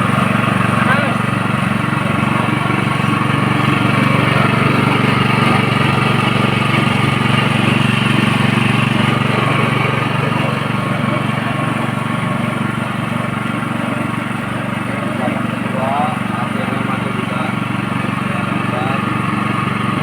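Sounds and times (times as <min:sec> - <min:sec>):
press machine motor hum: 0:00.0 - 0:20.0.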